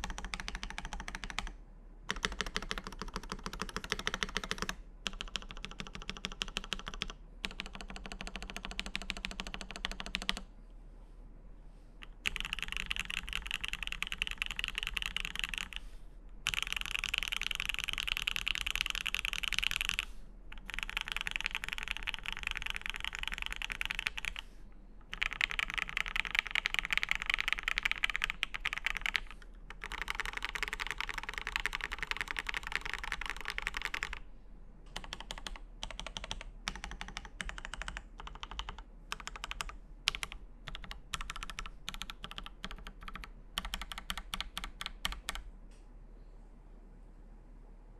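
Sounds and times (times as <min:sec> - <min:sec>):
typing on mechanical keyboard: 0:00.0 - 0:10.4, 0:12.1 - 0:15.8, 0:16.4 - 0:24.4, 0:25.1 - 0:34.2, 0:34.9 - 0:45.5.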